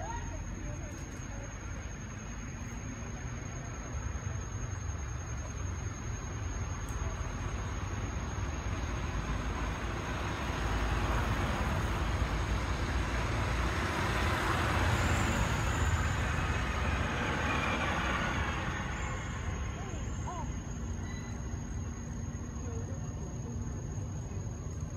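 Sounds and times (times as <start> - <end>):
vehicle passing on road: 0.0 - 24.8.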